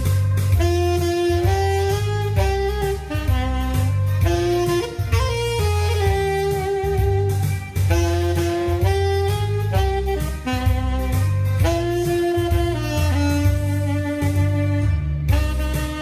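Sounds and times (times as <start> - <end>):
drum kit: 0.0 - 16.0
pulsing bass line: 0.0 - 16.0
saxophone melody: 0.0 - 16.0.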